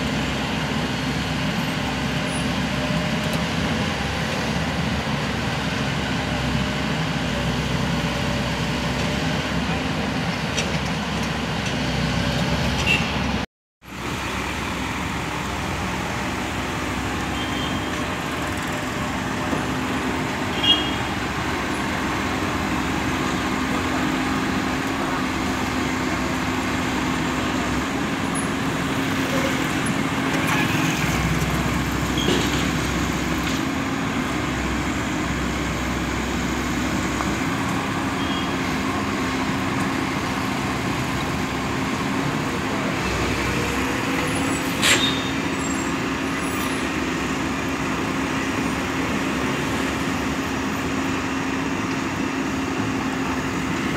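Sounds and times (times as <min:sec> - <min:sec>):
excavator diesel engine humming: 0:00.0 - 0:53.9.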